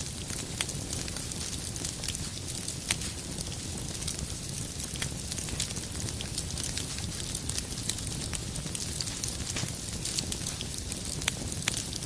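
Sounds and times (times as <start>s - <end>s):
fire pops and cracks: 0.0s - 12.0s
wood fire hissing: 0.0s - 12.0s.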